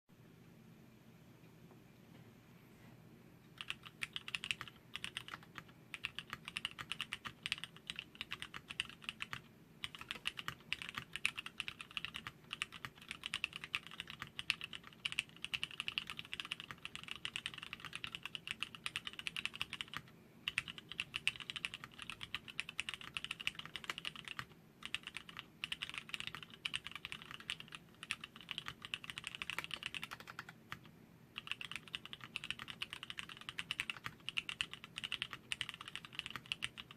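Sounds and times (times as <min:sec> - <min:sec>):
mechanical keyboard typing: 0:03.6 - 0:36.9.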